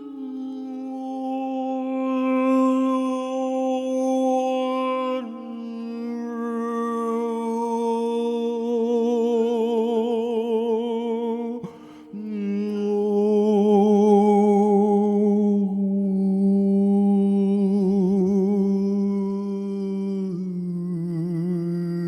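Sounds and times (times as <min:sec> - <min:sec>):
person singing long held notes: 0:00.0 - 0:22.0.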